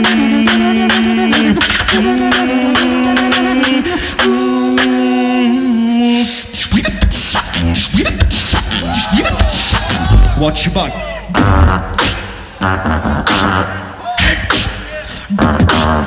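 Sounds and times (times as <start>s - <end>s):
beatboxing bass hits: 0.0s - 5.2s, 6.1s - 16.0s
beatboxing percussive clicks: 0.0s - 5.2s, 6.1s - 10.3s, 11.3s - 16.0s.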